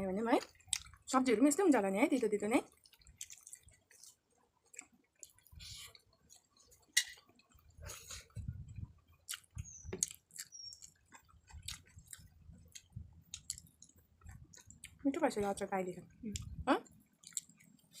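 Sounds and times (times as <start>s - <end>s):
people chewing: 0.4s - 1.1s, 2.7s - 15.7s, 16.3s - 18.0s.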